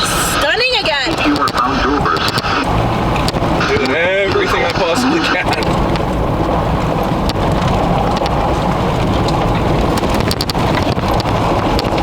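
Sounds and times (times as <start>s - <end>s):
rain ticking on windshield: 0.0s - 12.0s
road and wind noise in vehicle: 0.0s - 12.0s.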